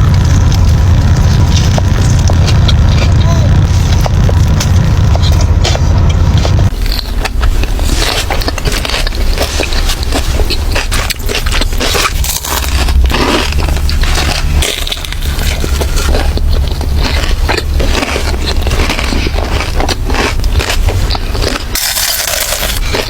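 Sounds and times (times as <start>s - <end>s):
crunching and chewing food: 0.0s - 23.0s.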